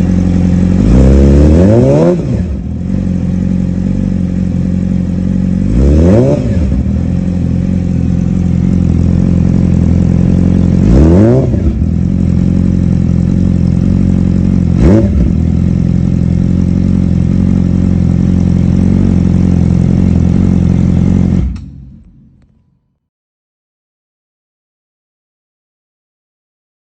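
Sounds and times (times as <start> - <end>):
motorcycle engine idling: 0.0 - 1.4, 2.4 - 22.6.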